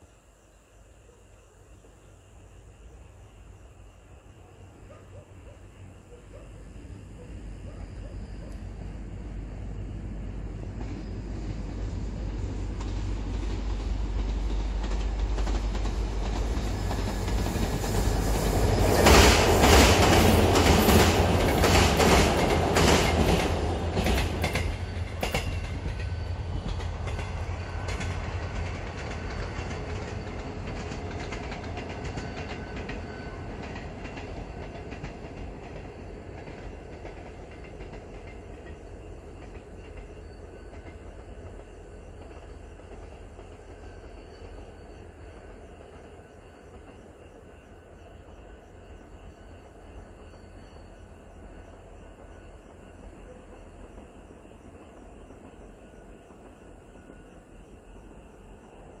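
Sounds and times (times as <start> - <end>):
passenger train rumbling past: 0.0 - 59.0
train wheels clicking over rails: 7.6 - 48.6, 51.3 - 59.0.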